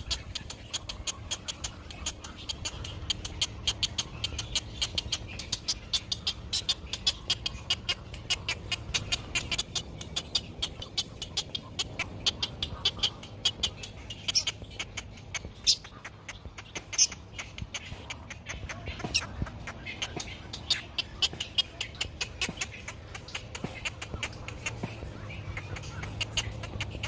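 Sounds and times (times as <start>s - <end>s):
egret chicks ticking begging calls: 0.0s - 27.0s.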